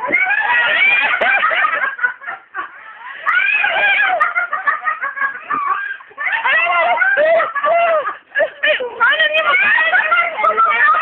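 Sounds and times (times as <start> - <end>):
high-pitched voices giggling and cooing: 0.0 - 11.0.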